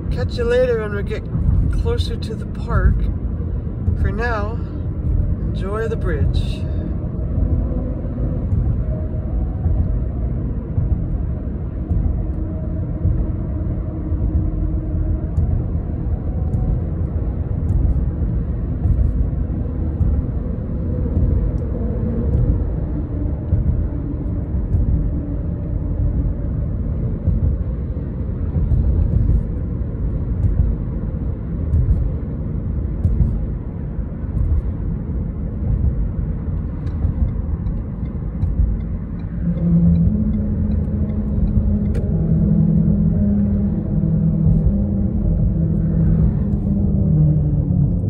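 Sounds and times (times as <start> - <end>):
tyre and engine rumble: 0.0 - 48.0.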